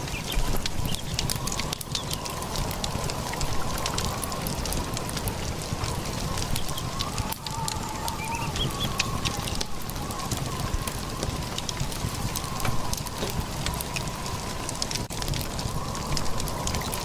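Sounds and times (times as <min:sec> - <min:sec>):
small sharp crackles: 0:00.0 - 0:17.0
steady rushing storm noise: 0:00.0 - 0:17.0.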